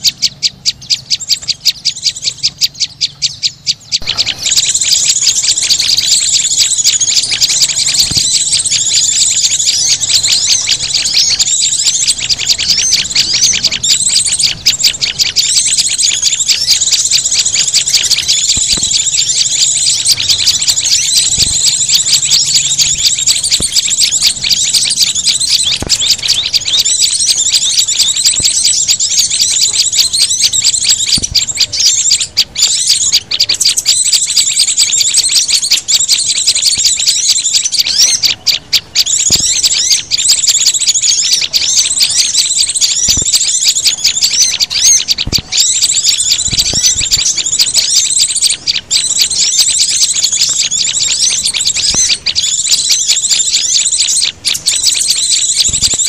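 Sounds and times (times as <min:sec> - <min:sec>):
rapid high ticking calls: 0:00.0 - 0:56.0
songbirds chirping and trilling: 0:00.0 - 0:56.0.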